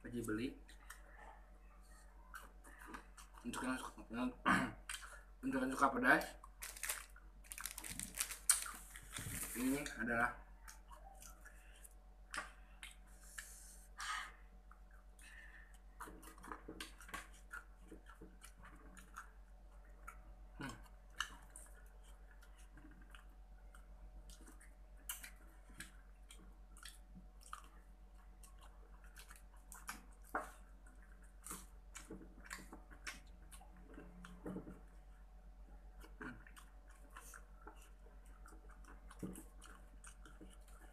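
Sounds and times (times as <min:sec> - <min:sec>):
chewing fried chicken: 0:00.0 - 0:40.9.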